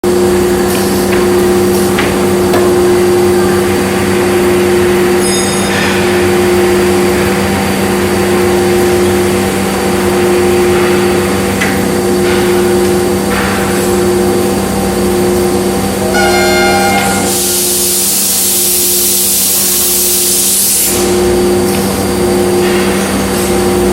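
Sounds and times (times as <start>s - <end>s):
machine humming: 0.0s - 23.9s.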